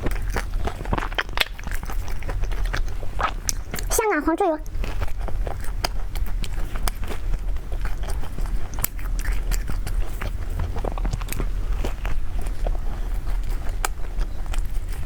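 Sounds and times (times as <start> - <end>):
crisp clicks and mouth noises: 0.0 - 15.0
person chewing food: 0.0 - 15.0.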